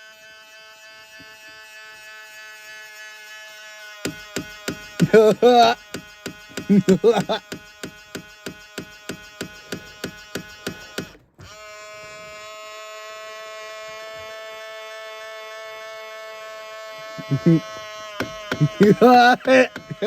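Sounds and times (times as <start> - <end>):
mirror motor rapid clicks: 0.0 - 20.0
steady electric buzz: 0.0 - 20.0.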